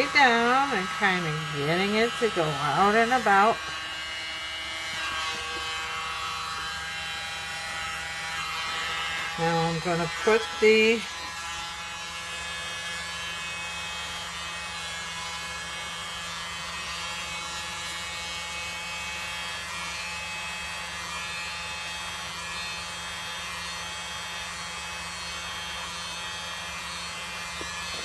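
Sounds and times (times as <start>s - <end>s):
electric blower motor hum: 0.0s - 28.0s.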